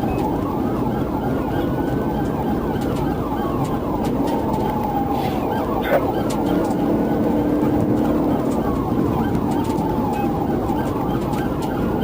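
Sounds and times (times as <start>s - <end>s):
engine and road noise: 0.0s - 12.0s
police siren wailing: 0.0s - 12.0s
yelping siren: 0.0s - 12.0s.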